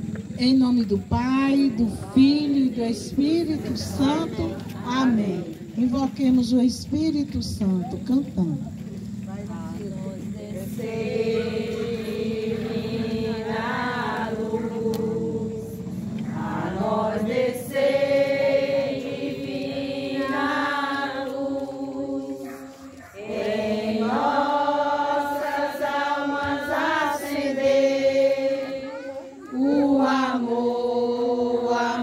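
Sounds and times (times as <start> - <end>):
women singing a hymn: 1.4 - 5.8, 9.3 - 32.0.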